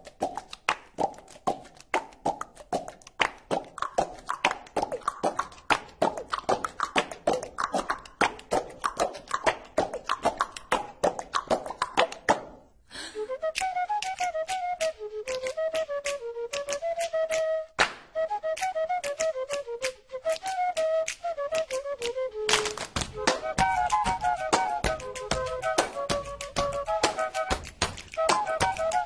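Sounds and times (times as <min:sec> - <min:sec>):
percussion taps and clicks: 0:00.0 - 0:12.7, 0:13.4 - 0:29.0.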